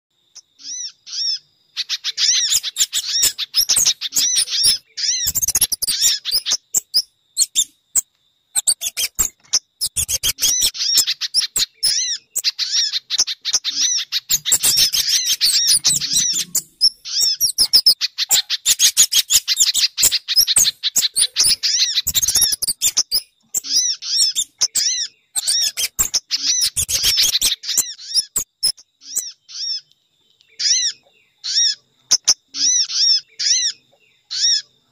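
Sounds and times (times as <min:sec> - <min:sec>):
small birds chirping rapidly: 0:00.2 - 0:34.9.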